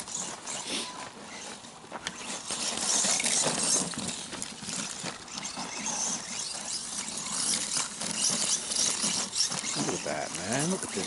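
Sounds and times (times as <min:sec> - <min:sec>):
tyres crunching over rocky ground: 0:00.0 - 0:11.0.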